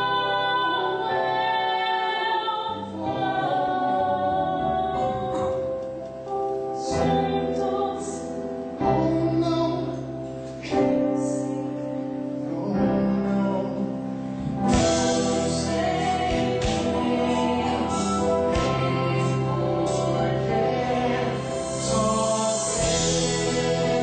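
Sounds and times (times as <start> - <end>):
instrumental accompaniment: 0.0 - 24.0
musical theatre singing: 0.0 - 24.0.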